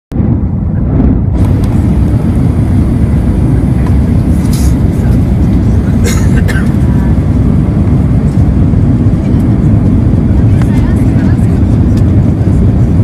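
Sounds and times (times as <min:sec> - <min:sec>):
low rumble of jet engines: 0:00.1 - 0:13.0
air rushing past fuselage: 0:00.2 - 0:13.0.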